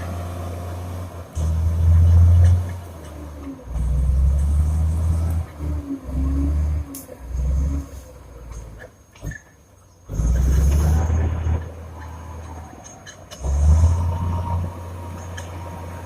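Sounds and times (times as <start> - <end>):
bulldozer diesel engine rumbling: 0.0 - 16.0.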